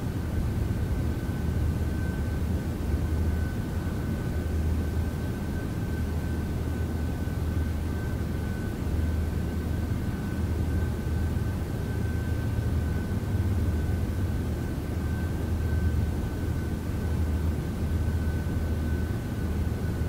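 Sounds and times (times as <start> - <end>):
low hum and rumble: 0.0 - 20.0.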